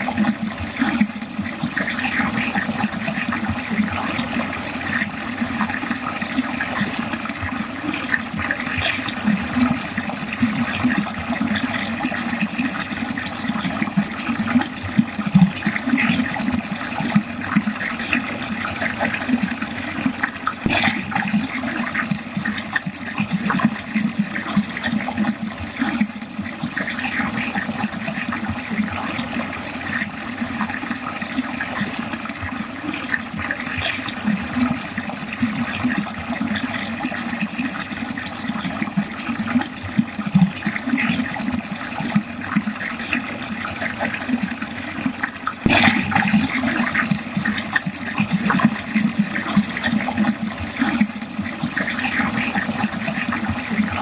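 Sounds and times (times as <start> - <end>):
water rushing down a drain: 0.0 - 54.0.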